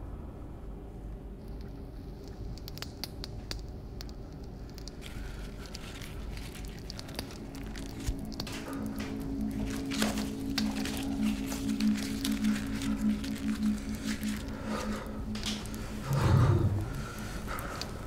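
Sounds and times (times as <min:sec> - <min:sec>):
low steady rumble: 0:00.0 - 0:18.0
fire crackling and popping: 0:01.4 - 0:18.0.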